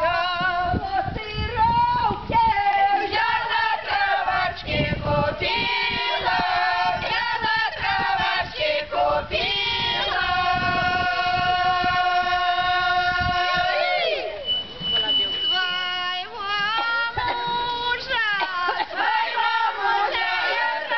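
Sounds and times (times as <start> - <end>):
women singing unaccompanied: 0.0 - 14.5, 15.5 - 20.9.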